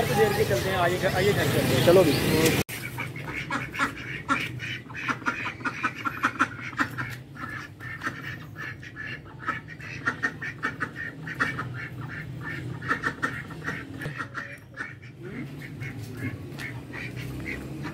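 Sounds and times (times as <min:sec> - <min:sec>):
ducks quacking: 0:00.0 - 0:17.9.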